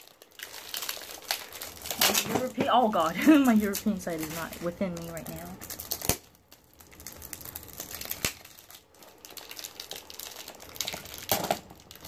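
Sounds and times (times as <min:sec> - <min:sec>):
packaging crinkling and scratching: 0:00.0 - 0:12.0
packaging rustle: 0:00.0 - 0:12.0.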